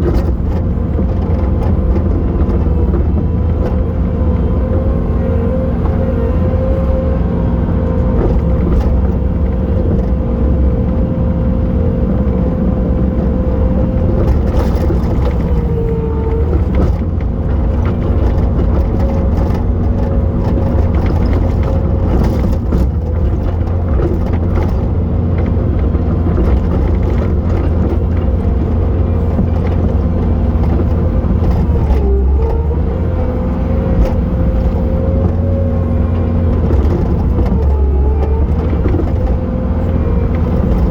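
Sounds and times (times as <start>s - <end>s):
diesel engine running hard: 0.0s - 40.9s.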